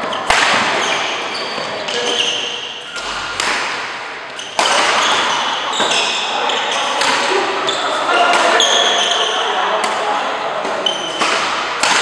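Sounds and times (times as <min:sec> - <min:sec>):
rackets hitting shuttlecock: 0:00.0 - 0:07.5, 0:08.1 - 0:12.0.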